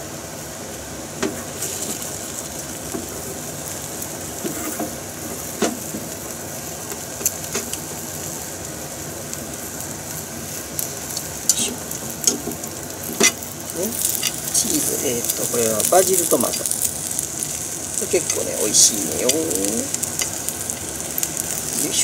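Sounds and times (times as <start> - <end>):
egg sizzling in a pan: 0.0 - 22.0.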